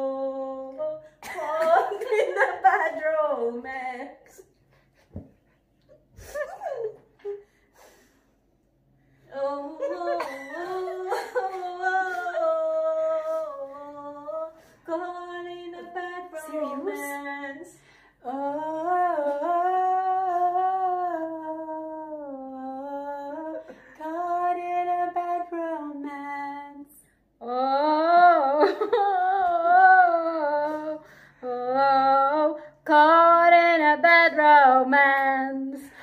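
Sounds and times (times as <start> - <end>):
woman singing unaccompanied: 0.0 - 4.2, 9.3 - 36.0.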